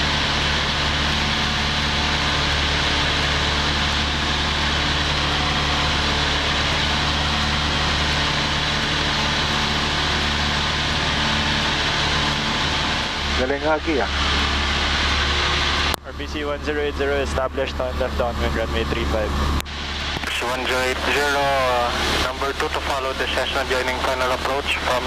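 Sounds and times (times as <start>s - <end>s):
airplane engine droning: 0.0s - 25.0s.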